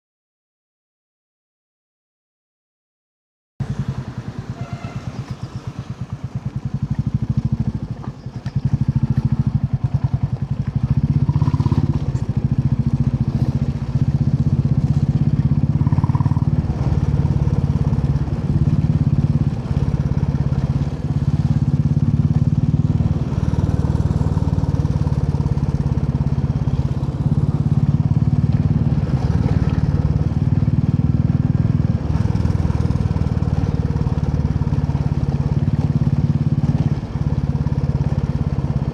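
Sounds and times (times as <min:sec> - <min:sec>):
motorcycle engine running: 0:03.6 - 0:38.9.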